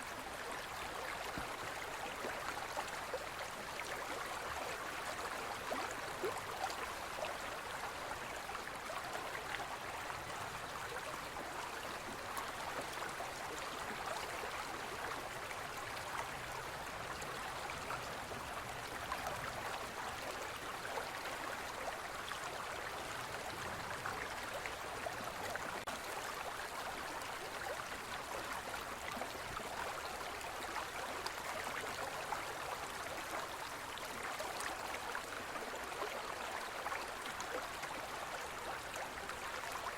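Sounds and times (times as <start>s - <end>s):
stream flowing with gurgles: 0.0s - 39.9s.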